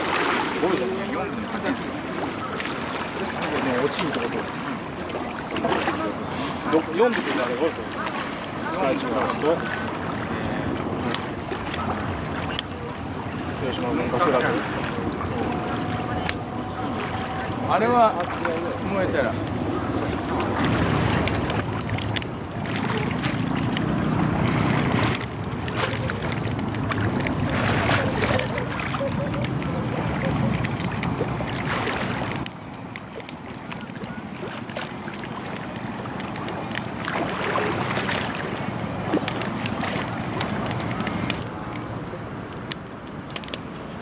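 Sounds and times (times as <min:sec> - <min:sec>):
motorboat engine running: 0:00.0 - 0:44.0.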